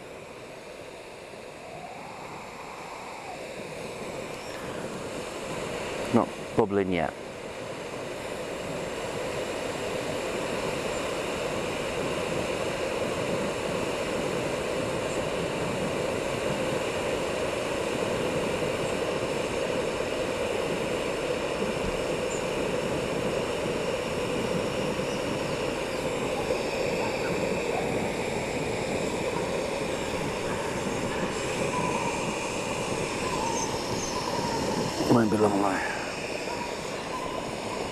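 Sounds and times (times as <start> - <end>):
gas burner hissing: 0.0 - 37.9.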